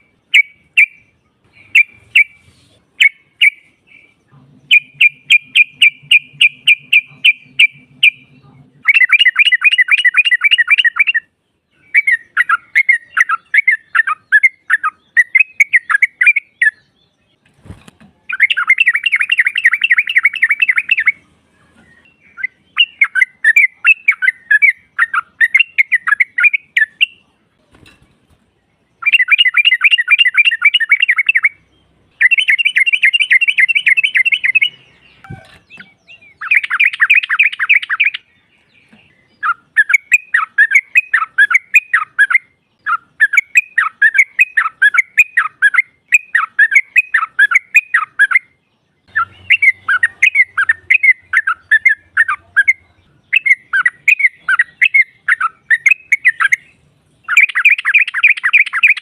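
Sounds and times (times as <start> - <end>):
bird chattering calls: 0.0 - 16.9, 18.2 - 21.2, 22.2 - 27.3, 29.0 - 38.3, 39.4 - 59.0.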